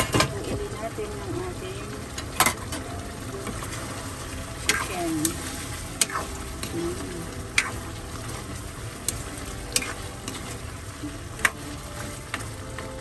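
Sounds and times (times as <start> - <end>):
chicken sizzling in a wok: 0.0 - 13.0.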